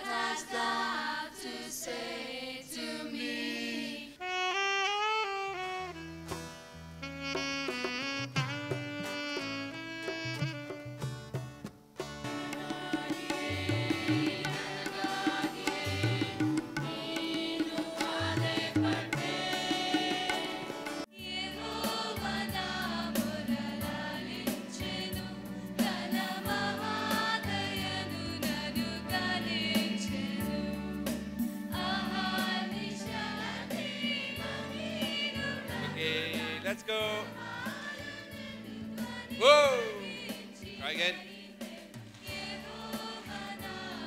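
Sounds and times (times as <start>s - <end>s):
choir singing: 0.0s - 4.3s, 12.4s - 44.0s
instrumental accompaniment: 4.2s - 44.0s.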